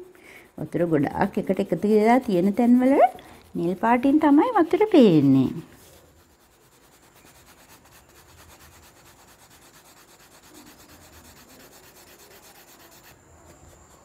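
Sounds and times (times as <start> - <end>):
oil pastel rubbing on paper: 0.0 - 14.0.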